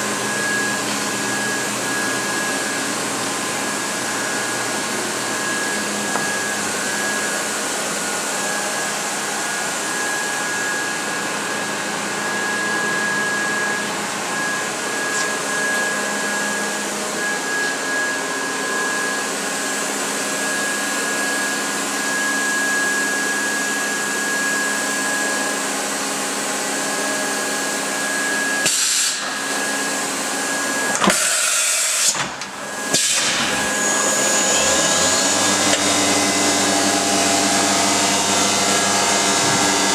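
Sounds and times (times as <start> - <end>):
machine whirring hiss and whine: 0.0 - 39.9.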